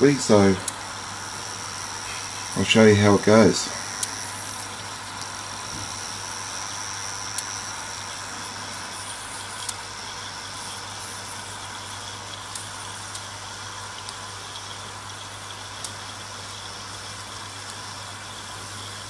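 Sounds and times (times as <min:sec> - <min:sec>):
boiling water hissing: 0:00.0 - 0:19.0.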